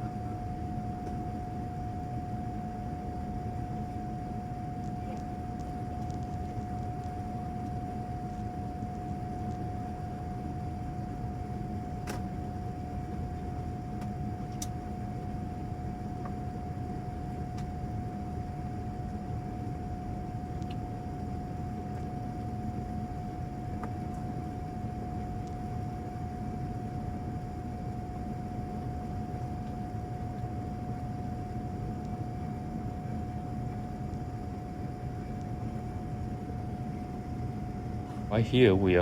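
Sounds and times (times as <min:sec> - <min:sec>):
airplane cabin engine rush: 0:00.0 - 0:39.0
constant whine: 0:00.0 - 0:39.0.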